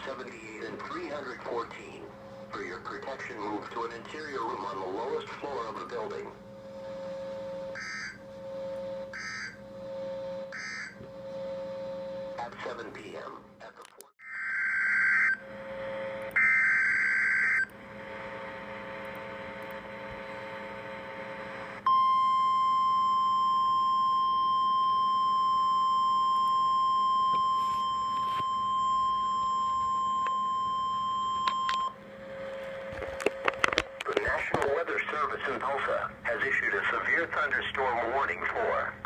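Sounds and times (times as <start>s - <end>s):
steady warning alarm tone: 0.0s - 12.9s, 14.2s - 33.8s.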